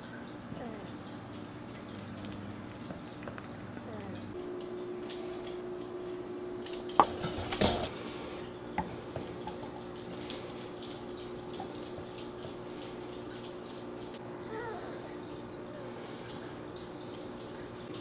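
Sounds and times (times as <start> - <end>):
steady low hum: 0.0 - 18.0
small dog noises: 0.1 - 6.9, 9.6 - 18.0.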